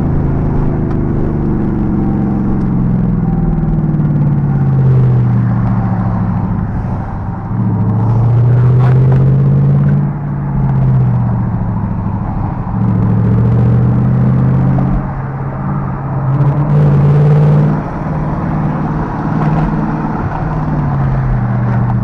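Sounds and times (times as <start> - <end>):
car engine and exhaust droning: 0.0 - 22.0.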